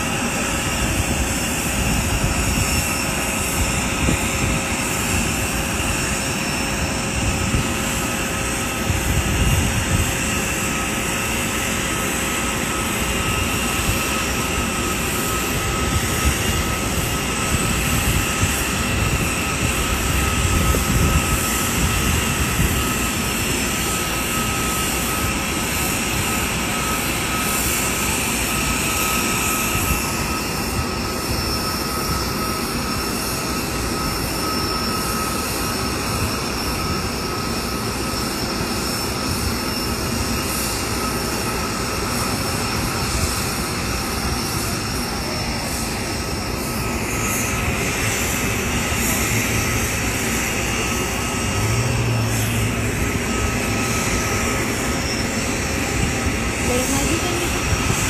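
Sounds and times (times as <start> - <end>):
jet engine whine: 0.0 - 58.0.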